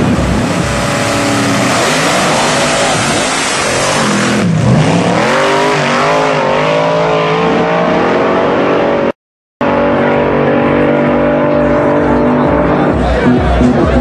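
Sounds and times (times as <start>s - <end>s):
dragster engines at full throttle: 0.0s - 14.0s.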